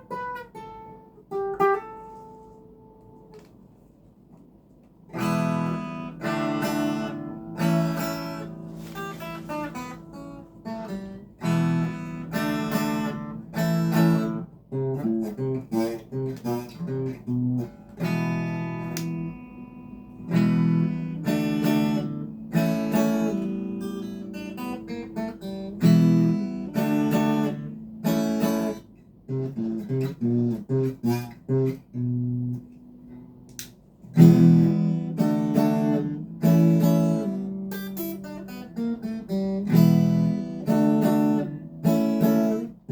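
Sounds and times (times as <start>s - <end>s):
clean electric guitar playing: 5.1s - 33.5s, 34.1s - 42.9s.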